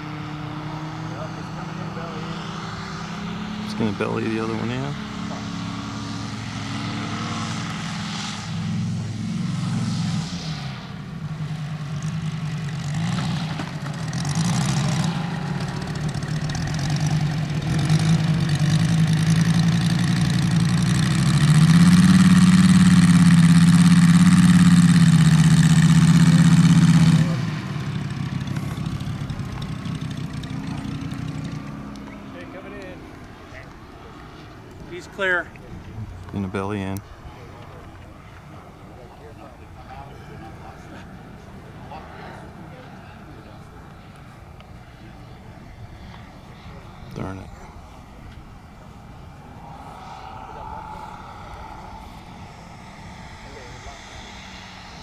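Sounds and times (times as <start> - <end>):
model plane radial engine running: 7.5 - 55.0.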